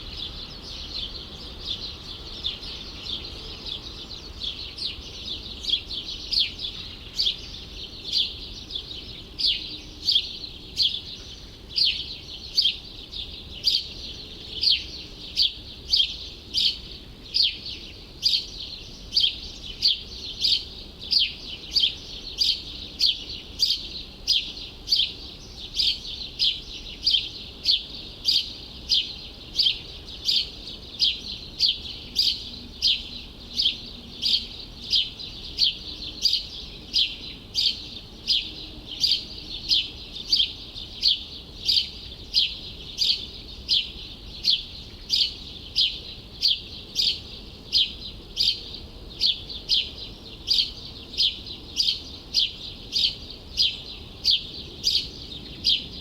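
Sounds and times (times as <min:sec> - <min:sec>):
bird chirping high: 0:00.0 - 0:56.0
faint city background noise: 0:00.0 - 0:56.0.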